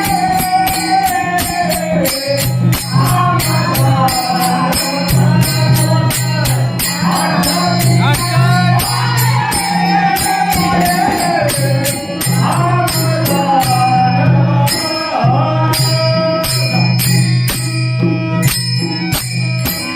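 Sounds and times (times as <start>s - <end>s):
person singing: 0.0s - 17.4s
harmonium: 0.0s - 19.9s
metallic jingling percussion: 0.0s - 19.9s.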